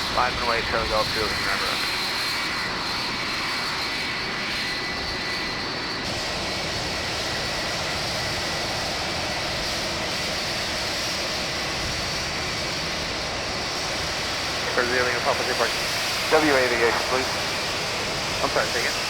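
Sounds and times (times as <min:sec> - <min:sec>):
airplane engines running: 0:00.0 - 0:19.0.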